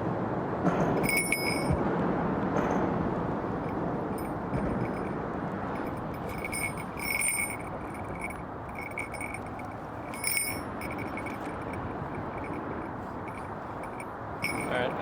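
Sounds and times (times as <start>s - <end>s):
small bell jingling: 1.0s - 1.8s, 3.5s - 15.0s.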